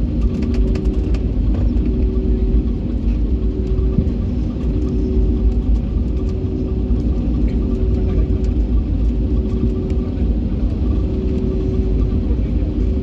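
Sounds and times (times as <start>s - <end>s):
aircraft engine rumble: 0.0s - 13.0s
mid-pitched hum: 0.0s - 13.0s.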